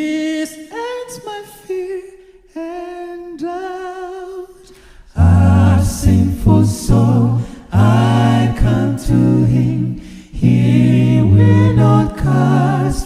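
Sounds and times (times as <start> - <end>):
a cappella hymn singing: 0.0 - 13.0.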